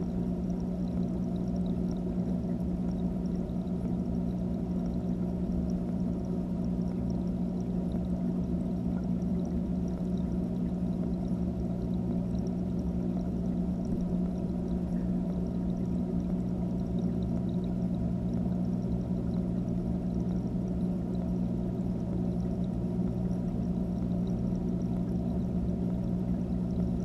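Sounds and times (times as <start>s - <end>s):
aquarium filter hum and water rush: 0.0s - 27.0s
faint ticks: 0.0s - 27.0s.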